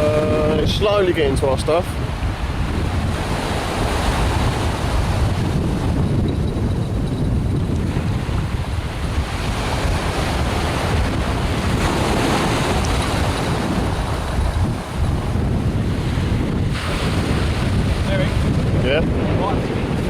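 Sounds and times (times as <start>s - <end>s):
waves breaking: 0.0s - 20.0s
wind buffeting microphone: 0.0s - 20.0s.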